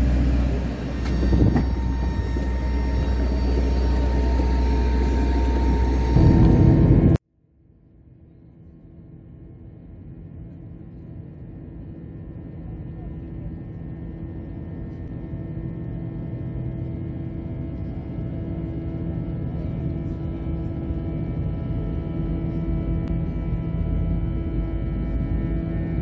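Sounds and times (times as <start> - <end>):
jet engine rumble in cabin: 0.0 - 7.2, 8.2 - 26.0.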